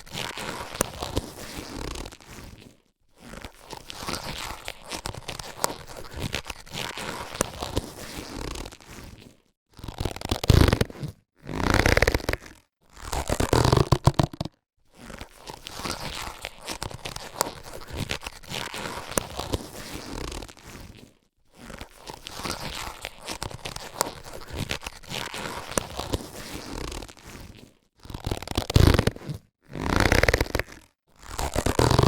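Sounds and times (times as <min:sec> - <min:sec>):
latex gloves crinkling: 0:00.0 - 0:29.4, 0:30.0 - 0:32.0.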